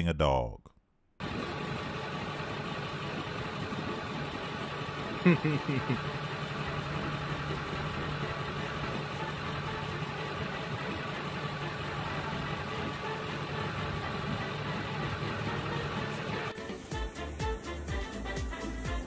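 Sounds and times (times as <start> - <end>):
vehicle engine idling: 1.2 - 16.5.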